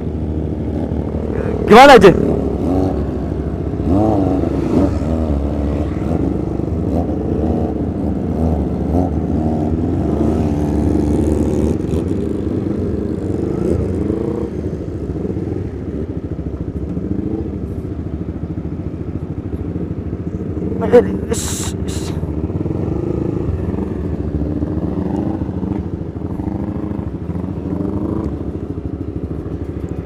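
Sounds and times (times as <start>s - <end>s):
motorcycle engines idling: 0.0s - 30.0s.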